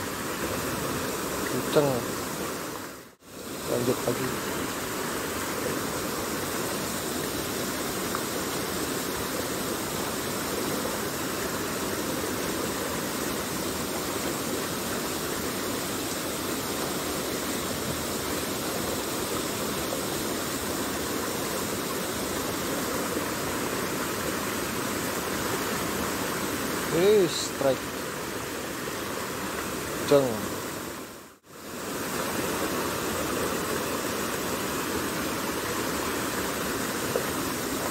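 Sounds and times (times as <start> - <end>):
stream rushing over rocks: 0.0 - 37.9.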